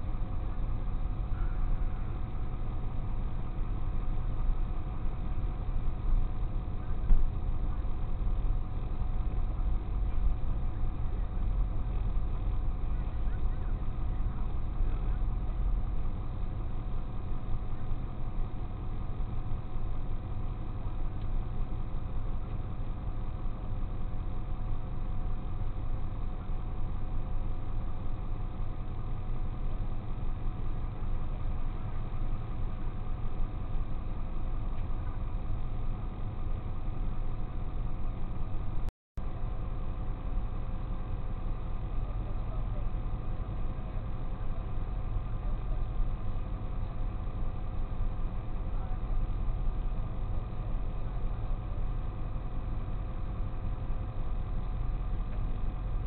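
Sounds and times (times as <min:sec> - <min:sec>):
faint steady hum: 0:00.0 - 0:56.0
truck engine idling: 0:00.0 - 0:56.0.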